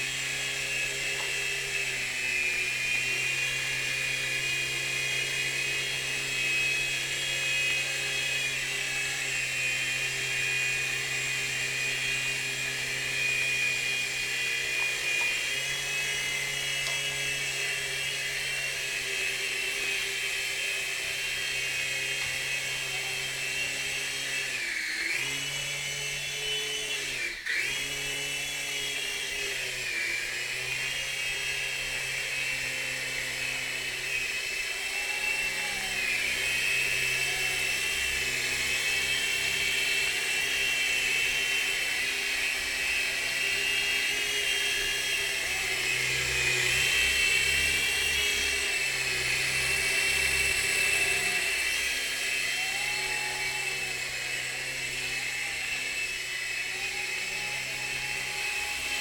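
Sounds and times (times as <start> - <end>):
toy helicopter rotor whine: 0.0 - 59.0.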